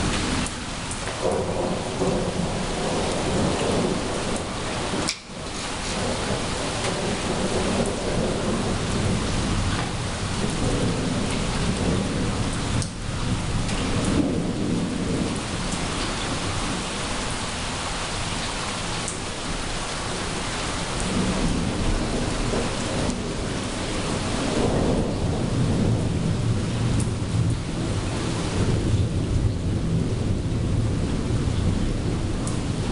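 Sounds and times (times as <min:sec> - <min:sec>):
steady rain falling: 0:00.0 - 0:32.9
thunder rumbling: 0:00.0 - 0:32.9.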